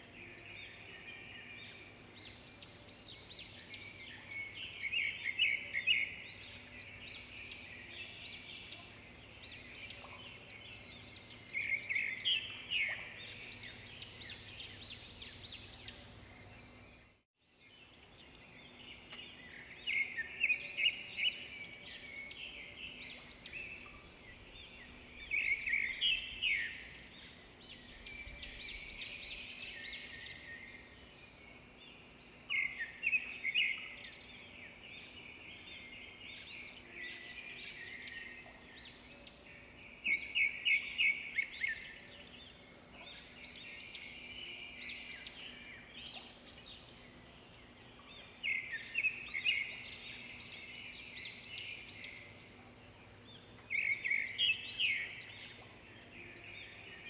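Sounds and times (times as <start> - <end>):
birds chirping: 0.0 - 57.0
faint outdoor background: 0.0 - 57.0.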